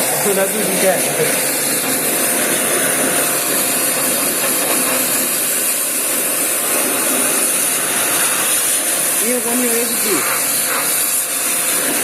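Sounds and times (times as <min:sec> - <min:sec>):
high-pressure water jet spraying: 0:00.0 - 0:12.0.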